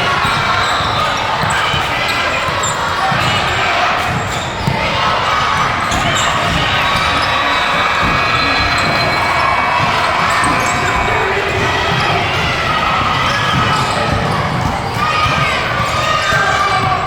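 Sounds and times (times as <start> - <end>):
basketball bouncing on gym floor: 0.0 - 17.0
gym crowd din: 0.0 - 17.0.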